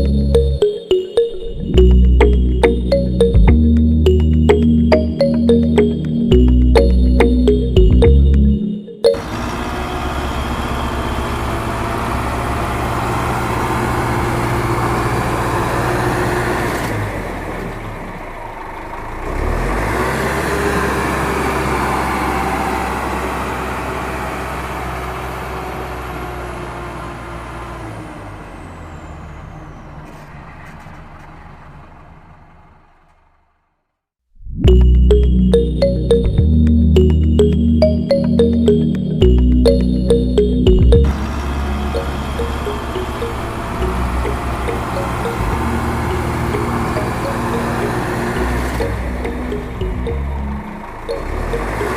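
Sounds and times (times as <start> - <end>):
tractor engine running: 0.0 - 33.6, 34.7 - 51.9.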